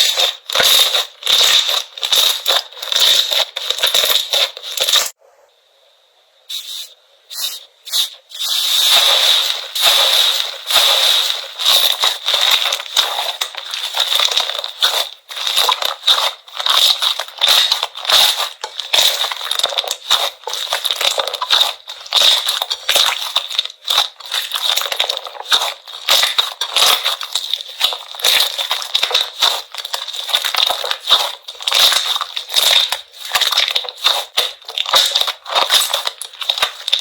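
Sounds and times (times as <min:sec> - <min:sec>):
slime squeezed crackling: 0:00.0 - 0:05.2, 0:07.4 - 0:37.0.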